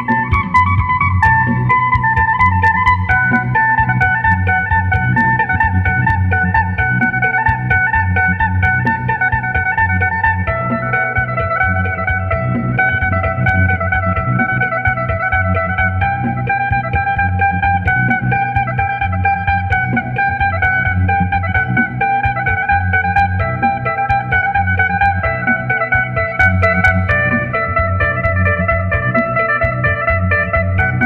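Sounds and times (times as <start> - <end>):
plucked lute melody: 0.0 - 31.0.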